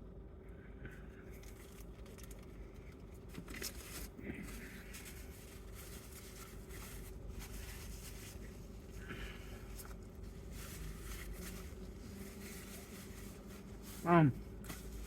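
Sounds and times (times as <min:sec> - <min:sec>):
faint steady hum: 0:00.0 - 0:15.0
mouth and handling noises: 0:01.3 - 0:15.0.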